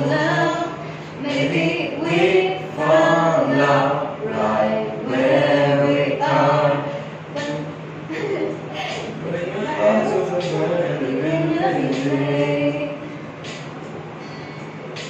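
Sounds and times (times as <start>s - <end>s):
woman and man singing a cappella: 0.0s - 13.3s.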